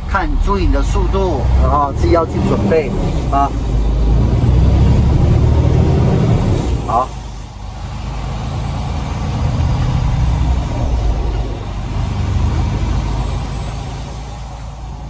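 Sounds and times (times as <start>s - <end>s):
road noise: 0.0s - 15.0s
truck diesel engine rumble: 0.0s - 15.0s.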